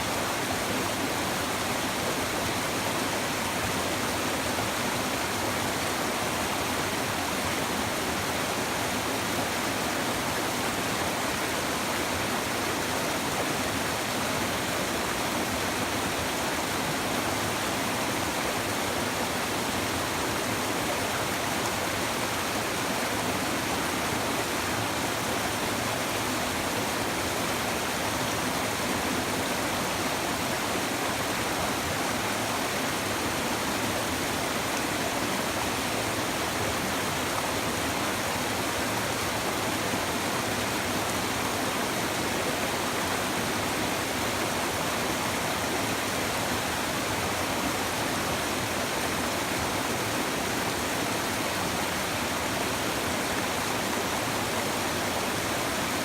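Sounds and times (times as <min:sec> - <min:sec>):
river babbling over stones: 0:00.0 - 0:56.0.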